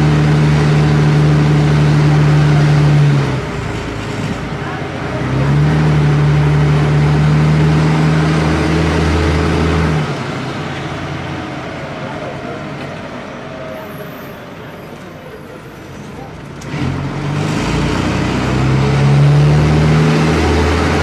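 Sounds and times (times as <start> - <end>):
bus diesel engine roaring: 0.0 - 21.0
bus road noise: 0.0 - 21.0.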